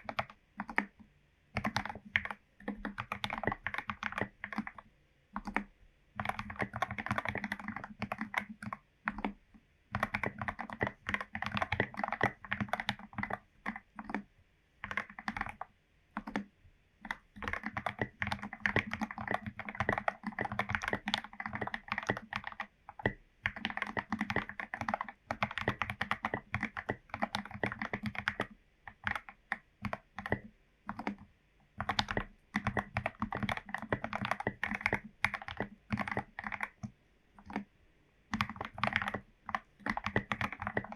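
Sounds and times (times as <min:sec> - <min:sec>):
mechanical keyboard typing: 0:00.0 - 0:37.7, 0:38.3 - 0:40.9.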